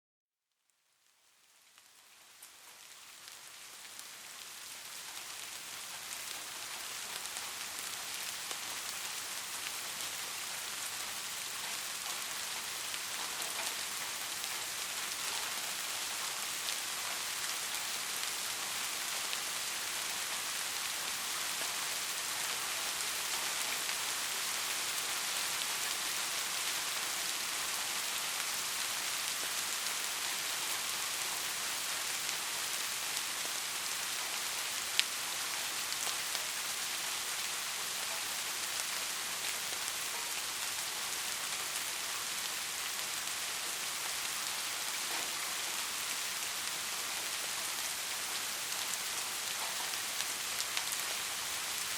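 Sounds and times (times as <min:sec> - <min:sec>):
soft rain pattering: 0:00.5 - 0:51.9.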